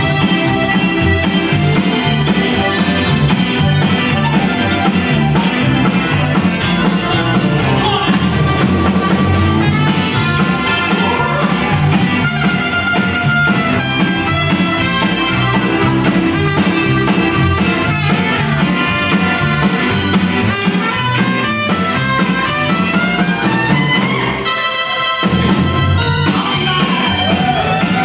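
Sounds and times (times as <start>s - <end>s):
drum kit: 0.0s - 28.0s
electric guitar: 0.0s - 28.0s
keyboard: 0.0s - 28.0s
trumpet lead: 0.0s - 28.0s.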